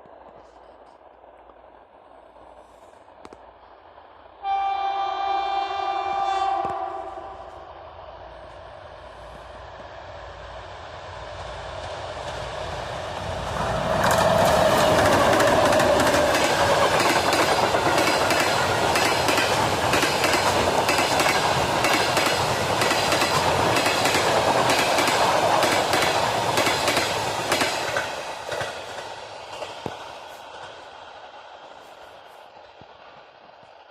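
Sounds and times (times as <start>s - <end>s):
diesel locomotive passing: 0.2s - 33.9s.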